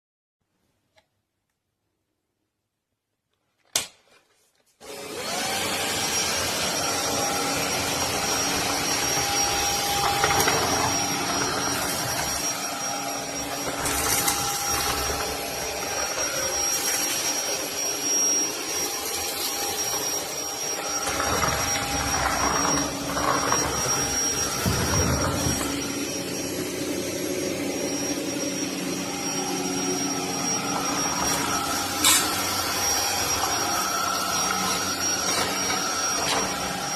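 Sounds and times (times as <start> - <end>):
vacuum cleaner motor whine: 4.8 - 36.9.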